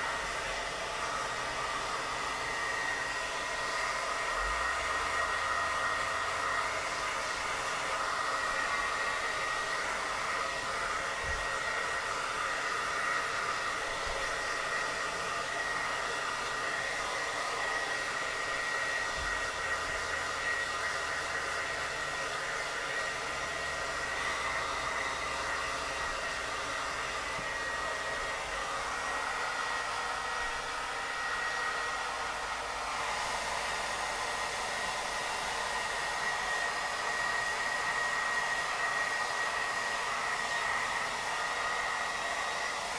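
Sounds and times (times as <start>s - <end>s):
hair dryer rushing air: 0.0s - 42.9s.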